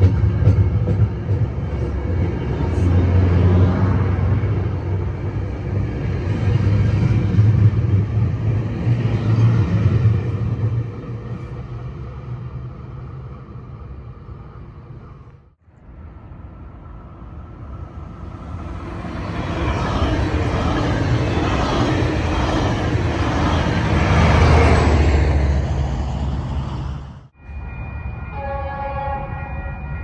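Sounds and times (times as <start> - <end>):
diesel locomotive passing: 0.0 - 30.0.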